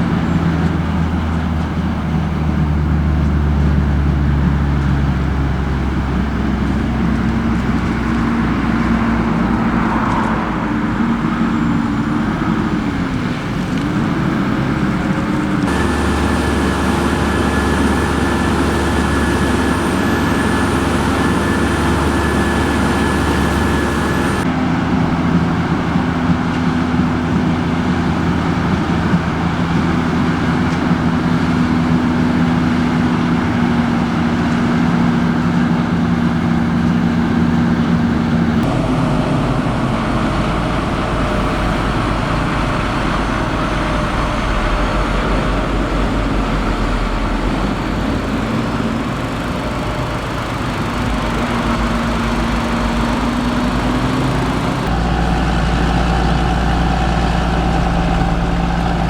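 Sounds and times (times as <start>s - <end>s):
heavy machinery engines running: 0.0s - 59.0s.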